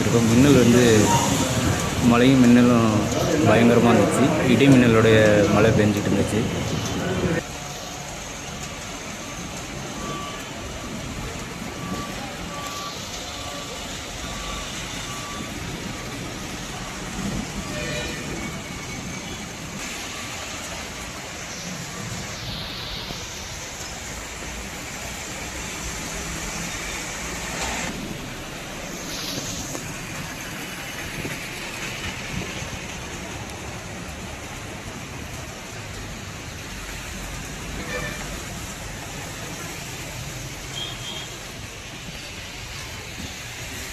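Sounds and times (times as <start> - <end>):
rain: 0.0 - 43.9
vehicles on wet road: 0.0 - 43.9.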